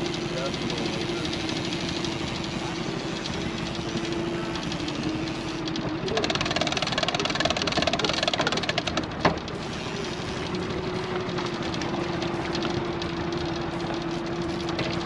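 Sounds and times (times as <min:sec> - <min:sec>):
fast ticking rattle: 0:00.0 - 0:15.0
outboard motor running: 0:00.0 - 0:15.0.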